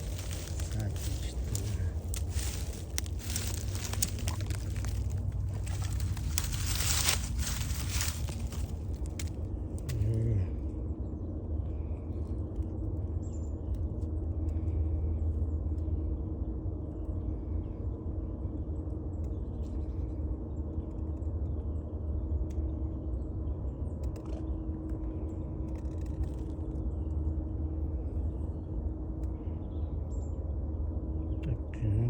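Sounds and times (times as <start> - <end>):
faint hum: 0.0 - 32.0
low outdoor rumble: 0.0 - 32.0.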